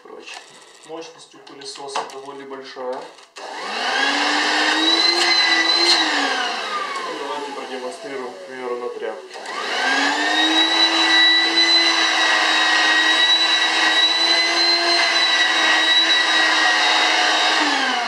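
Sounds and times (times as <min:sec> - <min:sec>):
vacuum cleaner motor whining: 0:03.4 - 0:18.0.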